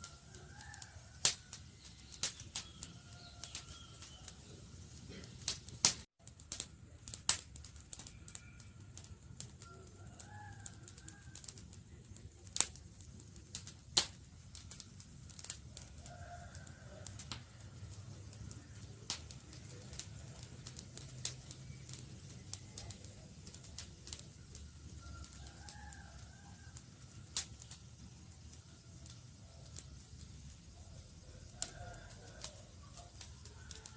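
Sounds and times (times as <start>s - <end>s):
low rumble of flames: 0.0s - 33.9s
wood fire crackling and popping: 0.0s - 33.9s.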